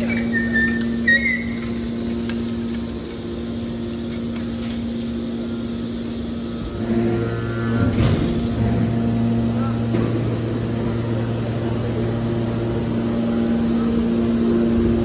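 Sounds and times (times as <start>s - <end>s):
baler machine humming: 0.0s - 15.0s.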